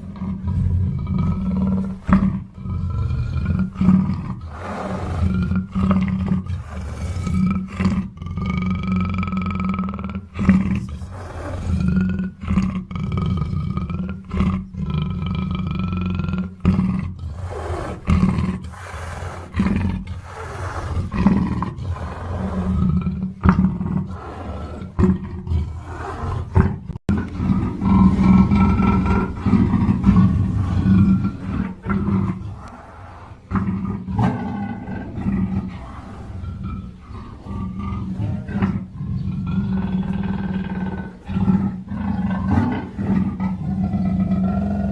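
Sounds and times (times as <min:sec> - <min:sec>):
big cat calling: 0:00.0 - 0:09.0, 0:10.3 - 0:44.9.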